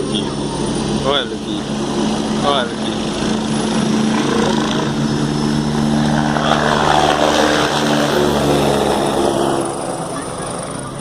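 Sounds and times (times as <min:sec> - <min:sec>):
helicopter engine and rotor drone: 0:00.0 - 0:11.0.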